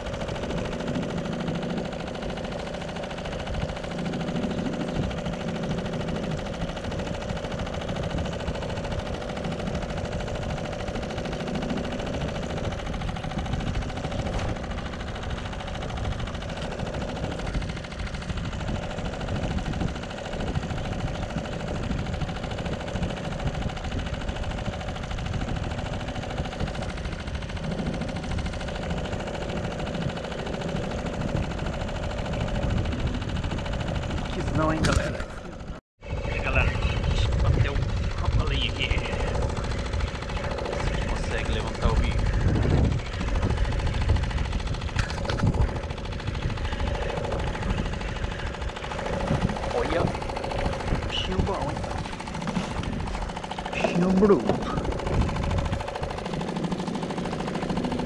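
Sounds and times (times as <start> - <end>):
choppy river water: 0.0 - 58.0
wind buffeting microphone: 0.0 - 58.0.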